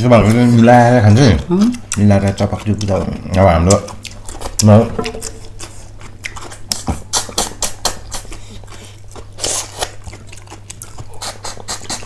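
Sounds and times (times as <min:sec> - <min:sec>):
chewing and lip smacking: 0:00.0 - 0:12.0
steady low hum: 0:00.0 - 0:12.0.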